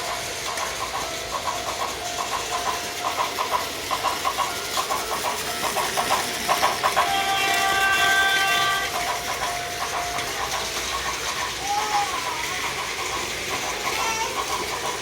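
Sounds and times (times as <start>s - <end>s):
toy train clickety-clack sound: 0.0s - 15.0s.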